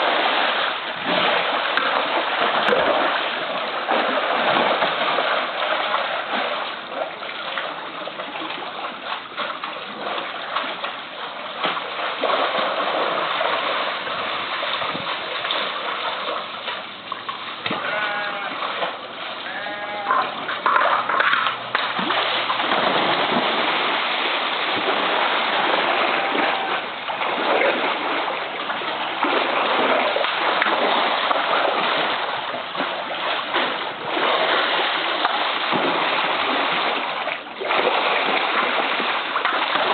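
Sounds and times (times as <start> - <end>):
water splashing and sloshing: 0.0 - 39.9.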